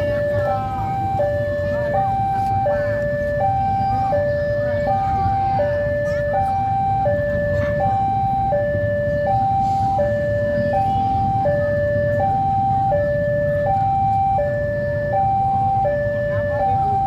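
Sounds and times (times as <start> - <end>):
two-tone crossing alarm: 0.0 - 17.0.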